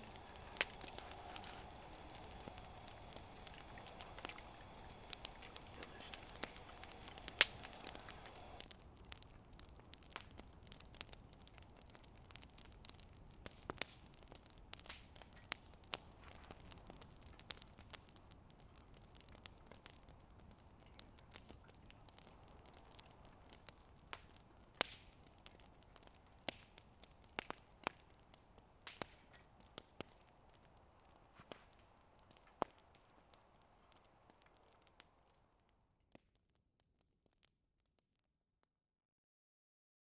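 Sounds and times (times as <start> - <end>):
burning wood popping: 0.0 - 36.2
campfire crackling: 0.0 - 36.3.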